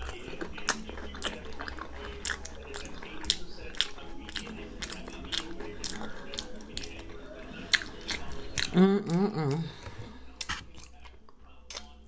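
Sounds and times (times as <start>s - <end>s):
person chewing crispy food: 0.0s - 12.0s.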